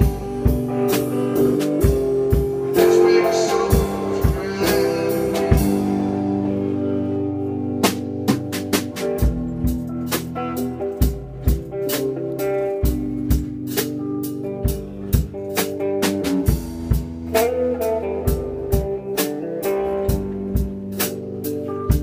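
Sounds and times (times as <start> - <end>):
drum kit strokes: 0.0 - 22.0
live band playing: 0.0 - 22.0.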